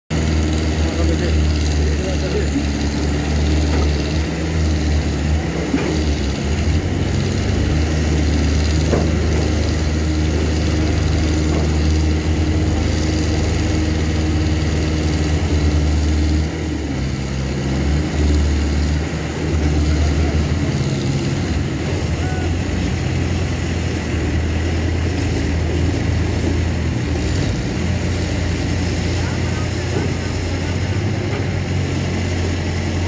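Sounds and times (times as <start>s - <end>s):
diesel crane engines droning: 0.1s - 33.0s.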